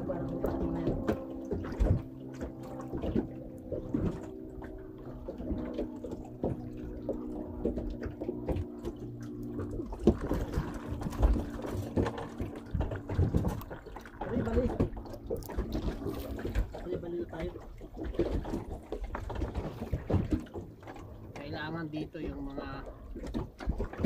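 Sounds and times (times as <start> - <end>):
hum of held tones: 0.0 - 23.8
water lapping against boat hull: 0.0 - 24.0.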